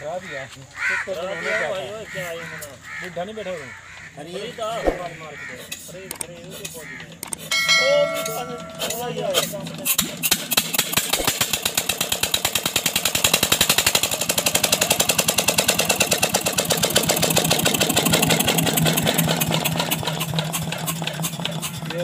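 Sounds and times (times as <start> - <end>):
diesel engine chugging: 1.2 - 22.0.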